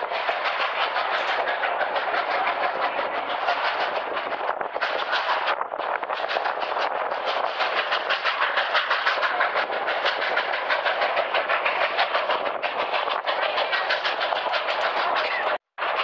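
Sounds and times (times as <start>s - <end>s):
steam train chugging: 0.0s - 16.0s.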